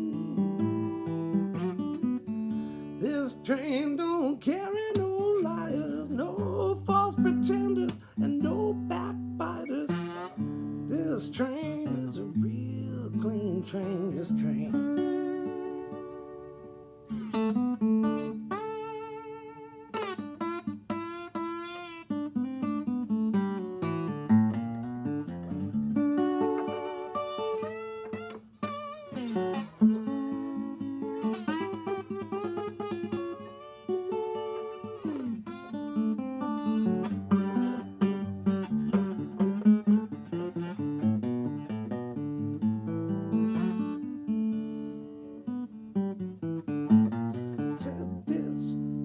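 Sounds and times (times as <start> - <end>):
slide acoustic guitar melody: 0.0 - 49.0.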